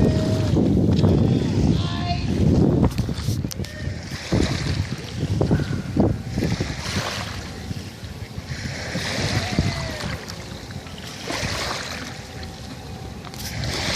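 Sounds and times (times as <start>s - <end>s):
water lapping: 0.0s - 13.9s
wind buffeting microphone: 0.0s - 13.9s.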